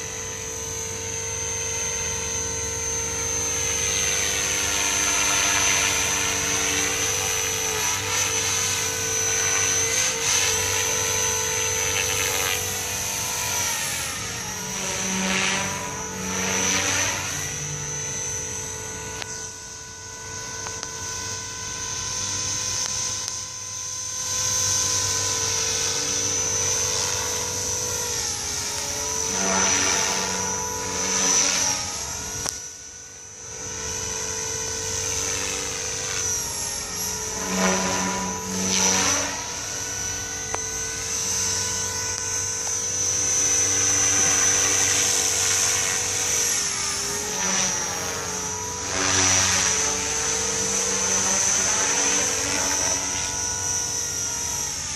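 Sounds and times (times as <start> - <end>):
rc helicopter rotor whine: 0.0 - 54.9.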